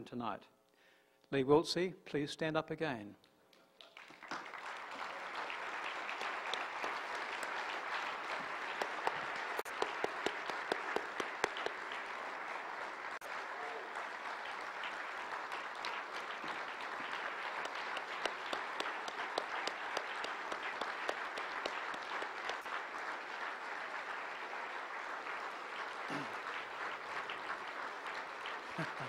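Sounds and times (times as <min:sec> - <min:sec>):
large audience applauding: 0:03.5 - 0:29.0.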